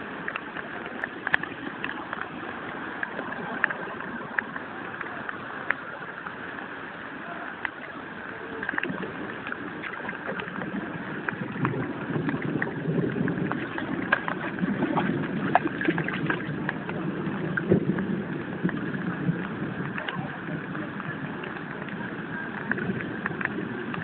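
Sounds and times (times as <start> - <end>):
floodwater washing: 0.0 - 24.0
torrential rain: 0.0 - 24.0
water drips and splashes: 0.0 - 24.0.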